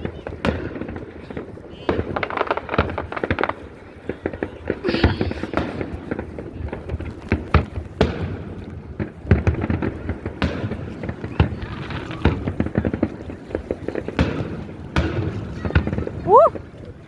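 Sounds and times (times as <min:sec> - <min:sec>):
fireworks booming: 0:00.0 - 0:16.8.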